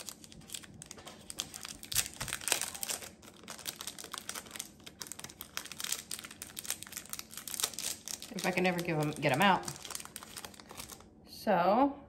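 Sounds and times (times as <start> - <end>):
plastic packet crinkling: 0.0 - 11.1.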